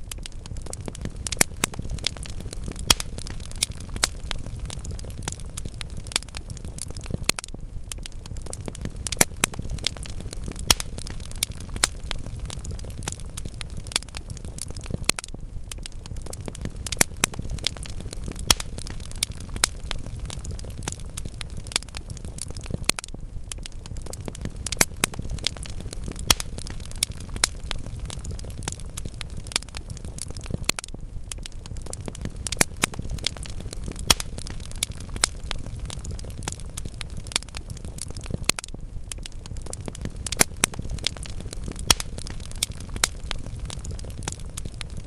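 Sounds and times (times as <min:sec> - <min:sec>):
logs crackling in fireplace: 0:00.0 - 0:45.0.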